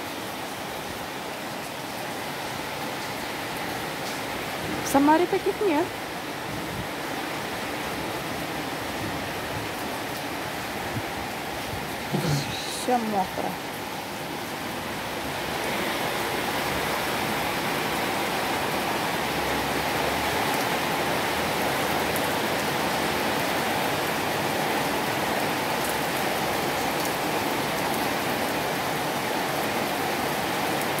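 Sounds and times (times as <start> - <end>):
heavy rain splashing on water: 0.0 - 31.0.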